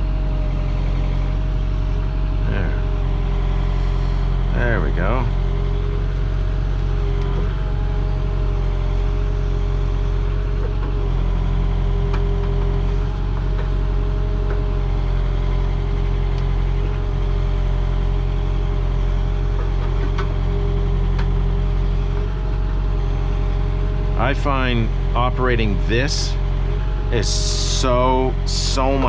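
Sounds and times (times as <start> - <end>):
constant whine: 0.0 - 29.0
diesel engine running: 0.0 - 29.0.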